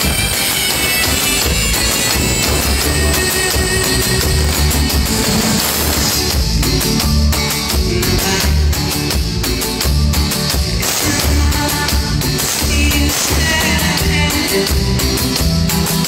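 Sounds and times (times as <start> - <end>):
live band through pa: 0.0 - 16.0
pulsing bass line: 0.0 - 16.0
steady drum beat: 0.0 - 16.0.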